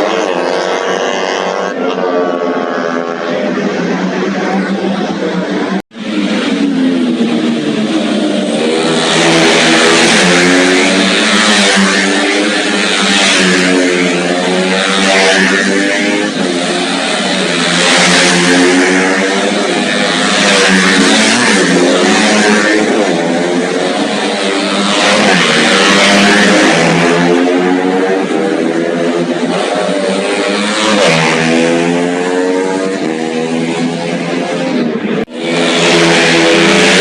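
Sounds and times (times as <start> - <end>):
racing motorcycle engines revving: 0.0 - 37.0.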